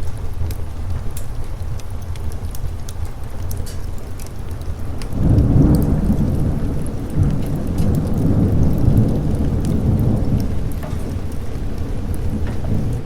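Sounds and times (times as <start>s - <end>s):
fire crackles: 0.0s - 13.0s
steady rain: 0.0s - 13.0s
rolling thunder: 2.0s - 13.0s.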